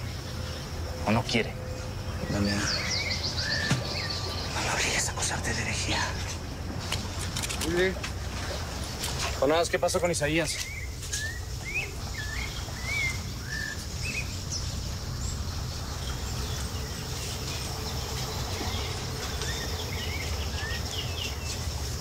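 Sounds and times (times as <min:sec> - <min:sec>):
birds chirping: 0:00.0 - 0:22.0
high insect hum: 0:00.0 - 0:22.0.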